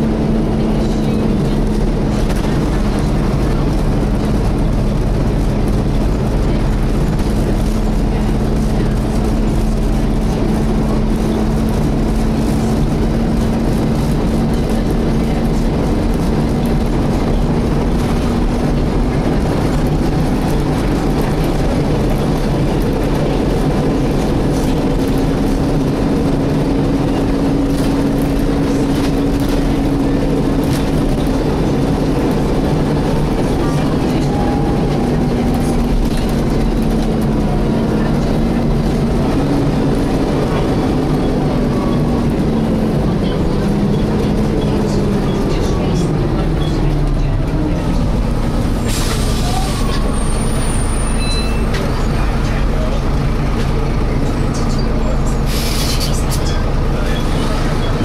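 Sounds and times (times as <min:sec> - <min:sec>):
engine and road rumble: 0:00.0 - 0:58.0
engine cooling fan whining: 0:00.0 - 0:58.0.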